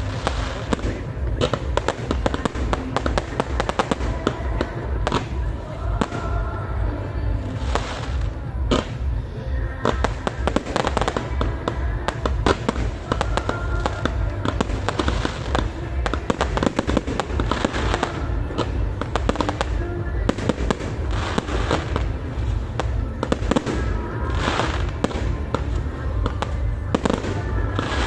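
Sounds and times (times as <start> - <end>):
fireworks bursting and crackling: 0.0 - 28.0
music playing: 0.0 - 28.0.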